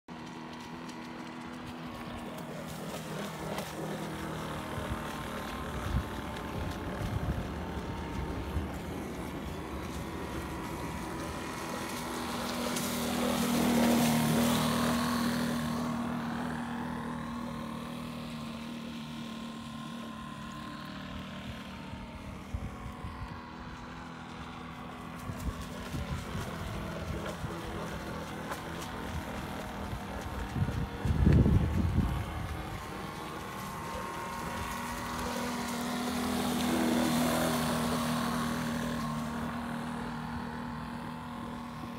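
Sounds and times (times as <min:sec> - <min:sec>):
model boat engine running: 0:00.1 - 0:41.9.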